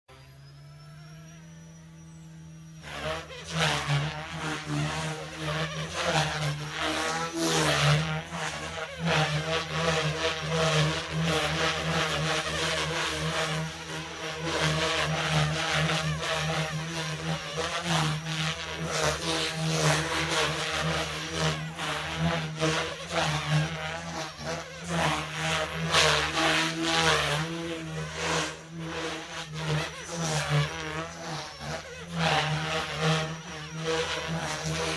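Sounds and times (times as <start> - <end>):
rc helicopter motor and rotor: 0.1 - 34.9.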